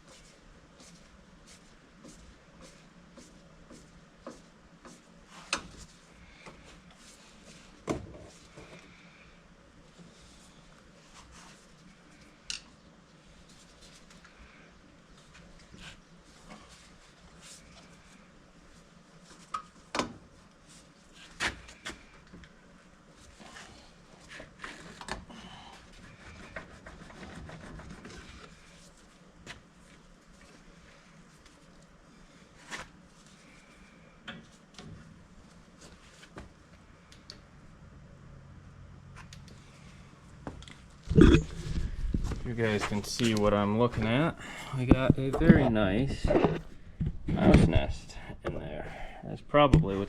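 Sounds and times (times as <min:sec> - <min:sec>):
dehumidifier humming: 0:00.0 - 0:50.0.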